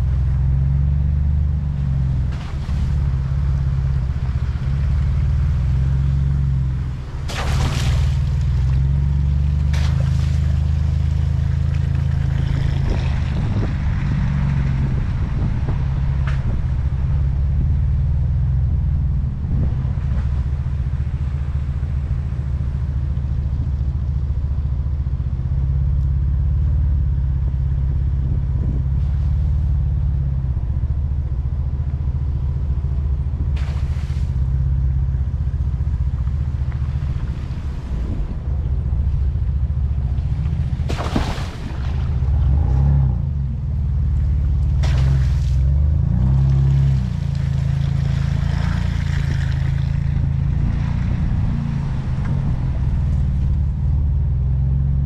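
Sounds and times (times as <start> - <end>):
engine low rumble: 0.0 - 55.0.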